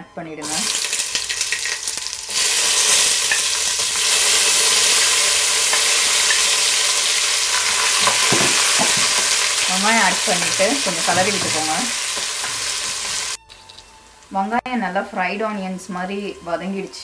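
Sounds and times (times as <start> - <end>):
onions sizzling in oil: 0.4 - 14.3.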